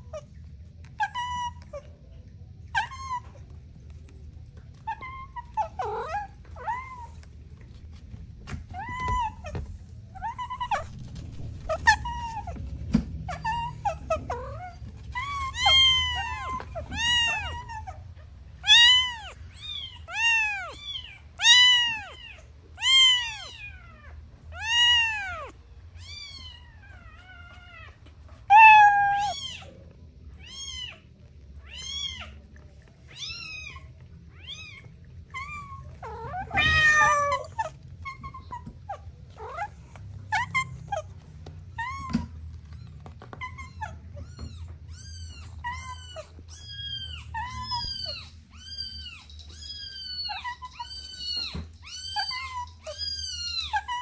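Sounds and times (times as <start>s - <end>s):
kitten meowing: 4.7s - 7.4s, 8.6s - 12.6s, 13.3s - 18.0s, 18.6s - 29.7s, 33.1s - 54.0s.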